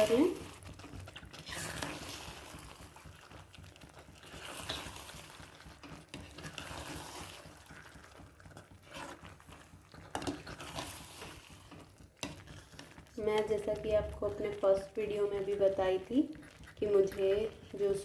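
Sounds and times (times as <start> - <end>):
spatula scraping pan: 0.0 - 14.9
spatula stirring thick sauce: 0.0 - 18.0.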